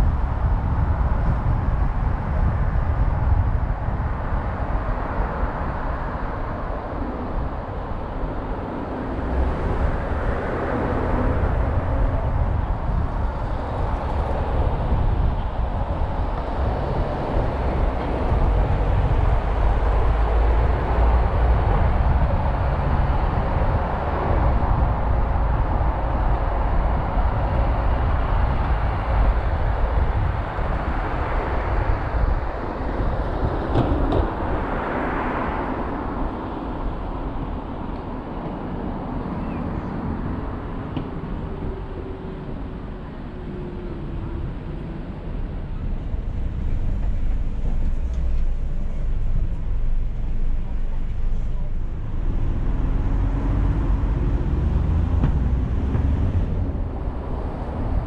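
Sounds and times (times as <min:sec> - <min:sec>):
deep road rumble: 0:00.0 - 0:58.0
tyre and wind noise: 0:00.0 - 0:58.0.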